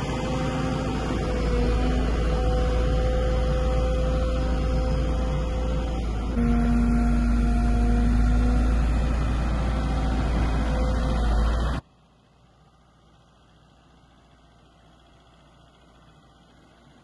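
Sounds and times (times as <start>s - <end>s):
machine engine idling: 0.0s - 17.0s.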